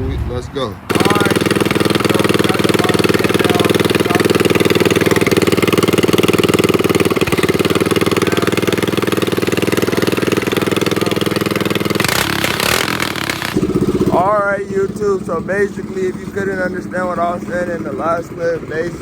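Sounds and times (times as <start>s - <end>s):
small motorbike engine idling: 0.9s - 19.0s.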